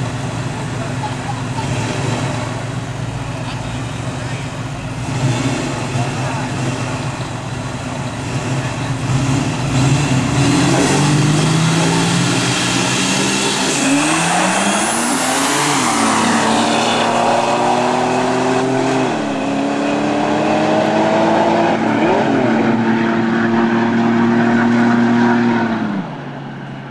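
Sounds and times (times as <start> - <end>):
car engines revving and accelerating: 0.0 - 26.9.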